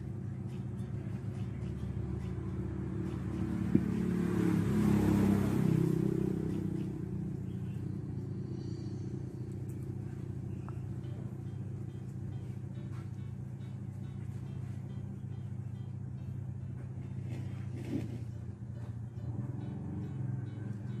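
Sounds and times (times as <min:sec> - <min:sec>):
steady low hum: 0:00.0 - 0:21.0
vehicle passing by: 0:01.0 - 0:21.0.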